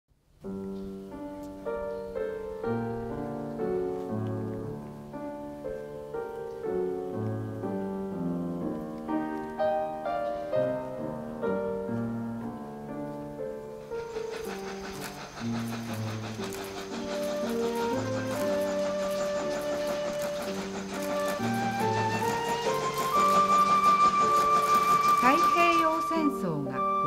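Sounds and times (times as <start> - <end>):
piano music: 0.3 - 27.0.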